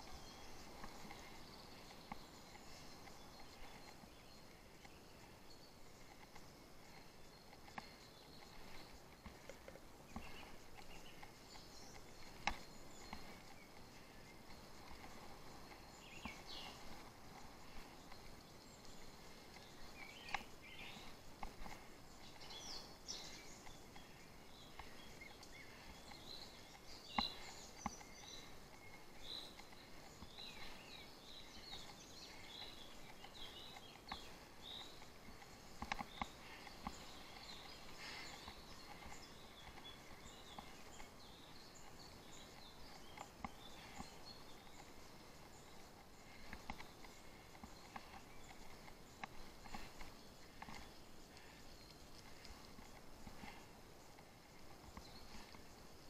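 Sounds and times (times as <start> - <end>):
background hiss: 0.0 - 56.0
birds singing: 0.0 - 56.0.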